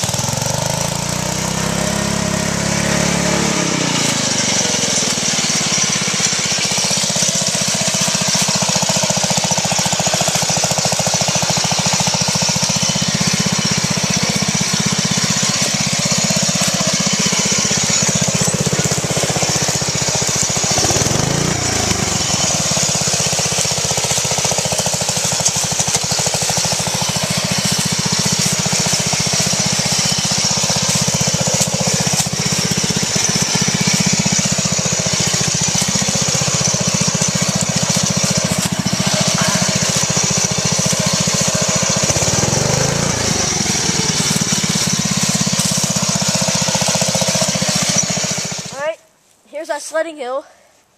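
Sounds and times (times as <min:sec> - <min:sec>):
lawn mower engine running: 0:00.0 - 0:49.0.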